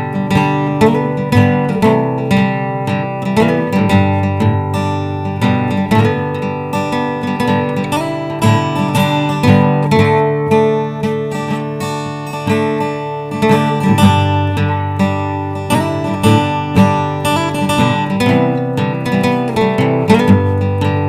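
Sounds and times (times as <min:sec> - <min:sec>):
acoustic guitar blues: 0:00.0 - 0:21.0.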